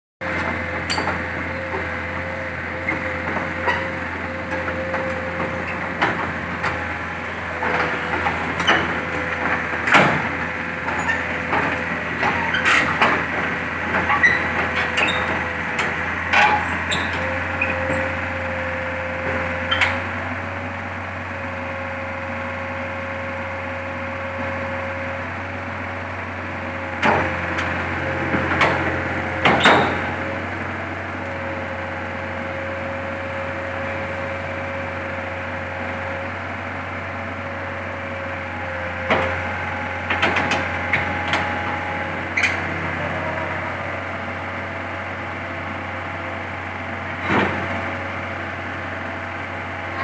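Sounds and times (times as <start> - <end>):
diesel engine running: 0.2 - 50.0.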